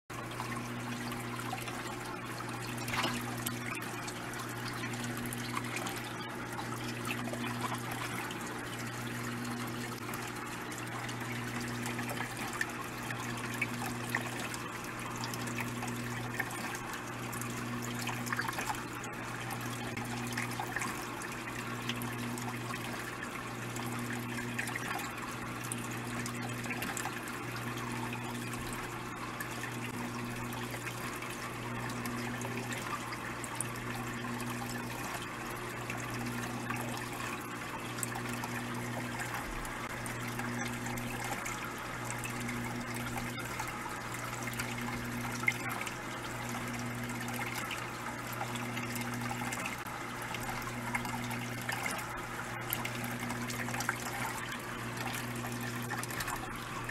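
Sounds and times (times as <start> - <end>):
bubbling trickling water: 0.1 - 56.9
constant low hum: 0.1 - 56.9
intermittent hum: 0.1 - 56.9.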